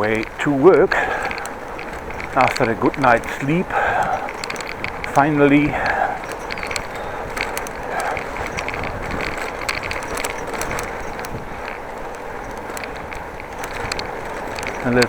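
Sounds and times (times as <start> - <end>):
bicycle freewheel ticking: 0.0 - 15.0
road and wind noise: 0.0 - 15.0.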